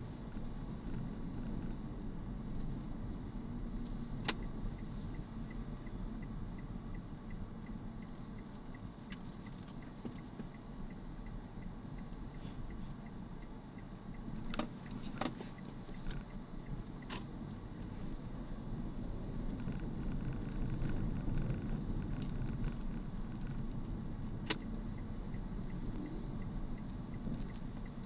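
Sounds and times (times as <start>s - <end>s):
car engine and road rumble: 0.0s - 28.0s
turn signal ticking: 0.0s - 28.0s.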